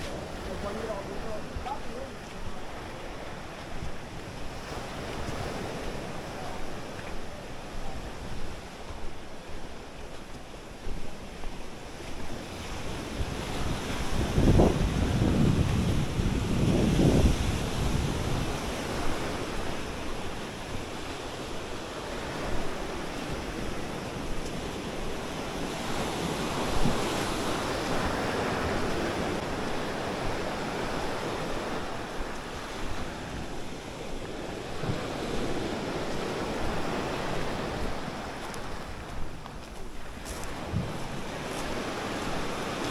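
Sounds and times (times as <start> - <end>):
small waves breaking on beach: 0.0 - 42.9.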